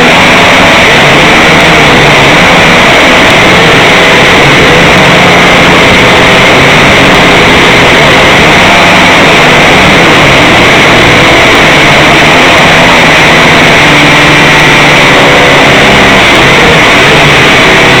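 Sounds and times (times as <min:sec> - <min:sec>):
drone propellers whirring: 0:00.0 - 0:18.0.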